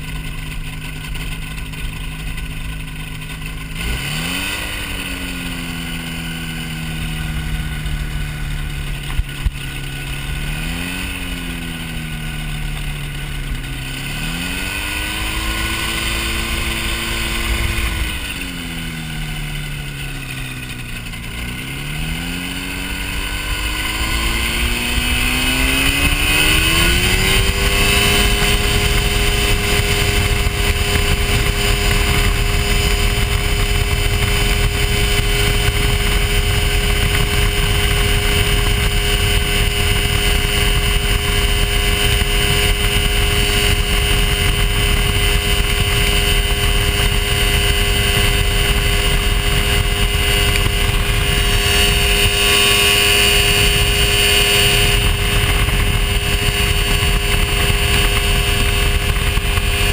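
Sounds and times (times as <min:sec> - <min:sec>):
light airplane engine and propeller: 0:00.0 - 0:59.9.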